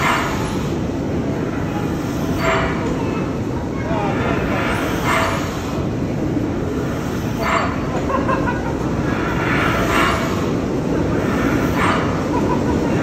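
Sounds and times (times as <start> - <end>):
steam locomotive rumble: 0.0 - 13.0.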